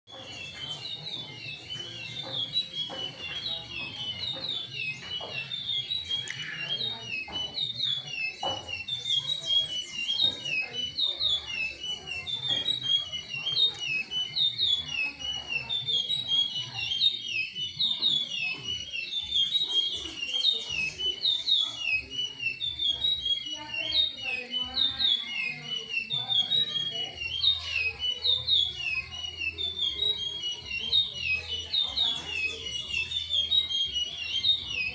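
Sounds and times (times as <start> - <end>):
finch singing whistled notes: 0.1 - 34.9.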